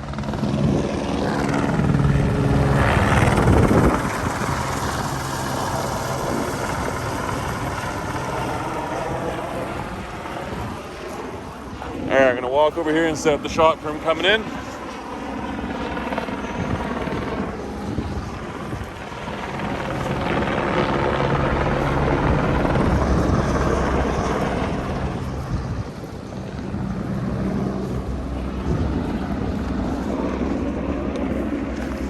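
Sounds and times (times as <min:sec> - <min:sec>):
helicopter rotor and engine hum: 0:00.0 - 0:32.0.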